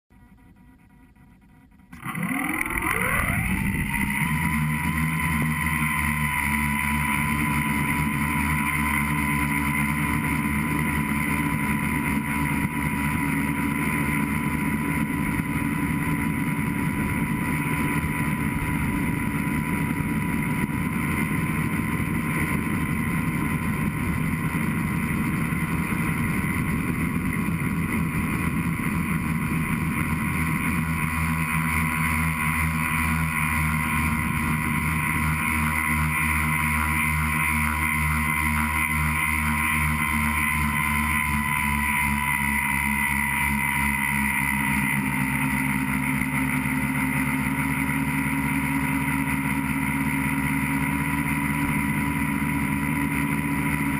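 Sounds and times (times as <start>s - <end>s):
drone motors whining: 0.1s - 53.9s.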